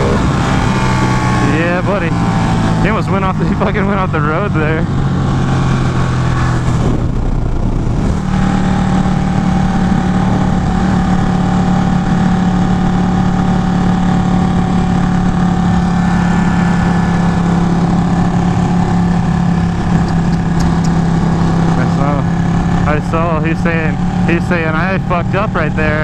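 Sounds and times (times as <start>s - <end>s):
wind on microphone: 0.0s - 2.9s, 4.8s - 23.0s
motorcycle engine cruising: 0.0s - 26.0s.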